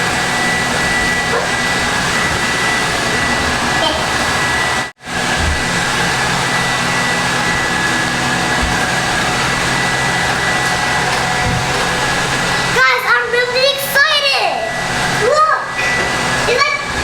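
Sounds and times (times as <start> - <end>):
robot vacuum cleaner whirring: 0.0 - 17.0.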